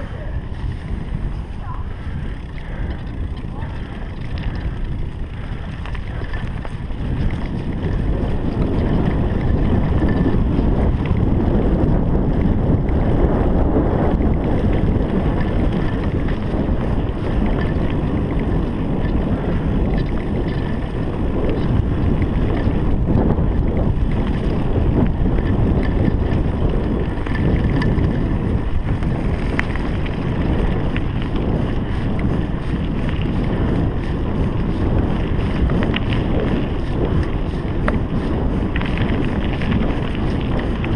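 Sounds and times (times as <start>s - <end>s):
bike tyres rolling on dirt: 0.0s - 40.9s
wind rush on microphone: 0.0s - 40.9s.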